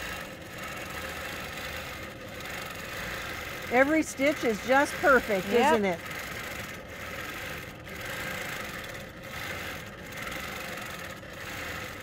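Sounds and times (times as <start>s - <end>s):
quilting machine humming: 0.0s - 12.0s.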